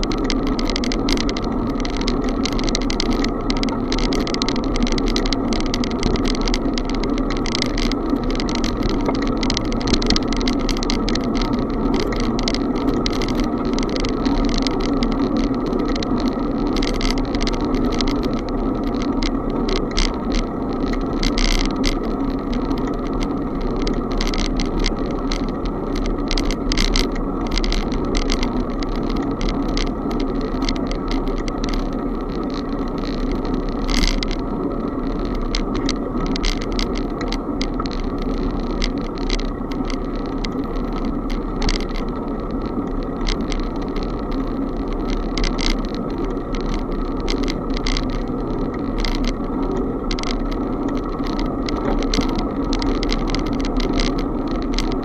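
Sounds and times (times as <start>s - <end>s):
small rattling clicks: 0.0s - 55.0s
wind and road noise: 0.0s - 55.0s.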